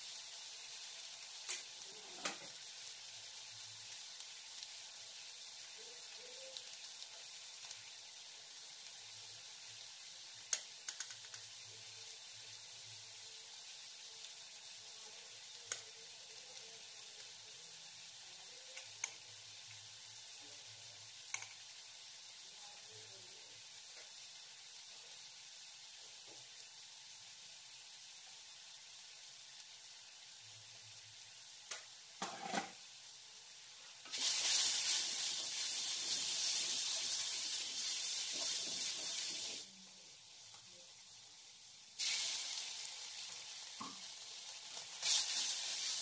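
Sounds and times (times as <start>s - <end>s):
loud sizzling and stirring: 0.0s - 46.0s
spices sizzling in a pan: 0.0s - 46.0s.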